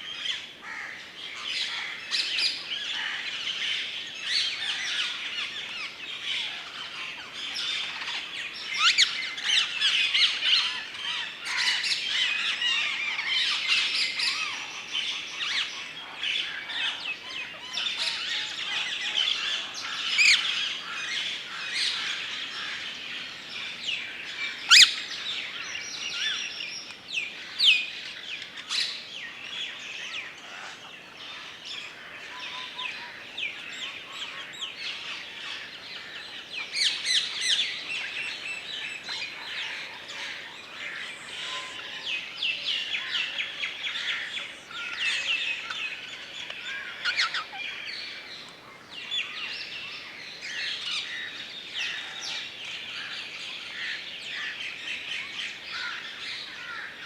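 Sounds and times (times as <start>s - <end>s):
birds chirping and calling: 0.1s - 57.0s.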